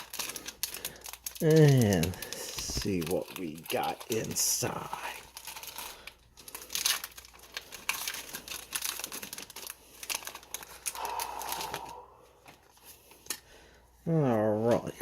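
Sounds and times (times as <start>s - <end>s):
foil wrapper crinkling and tearing: 0.0s - 13.5s.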